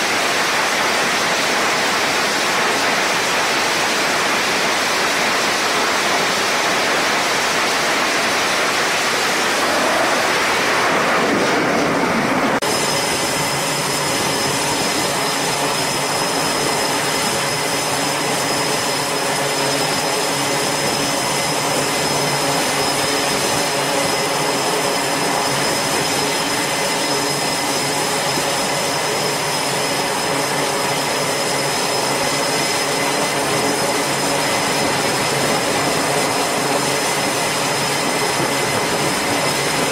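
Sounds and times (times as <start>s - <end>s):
jet engine roar: 0.0s - 39.9s
jet engine whine: 0.0s - 39.9s.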